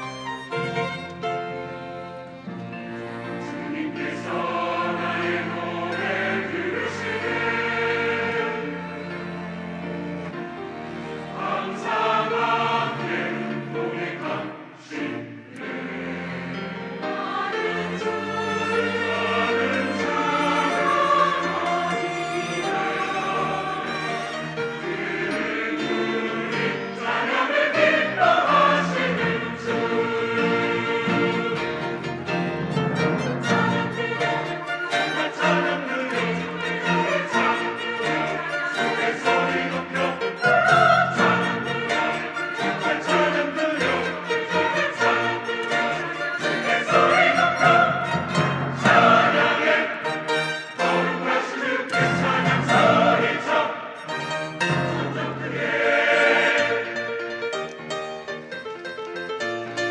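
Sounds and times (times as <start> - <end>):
church choir singing: 0.0 - 59.9
instrumental accompaniment: 0.0 - 59.9.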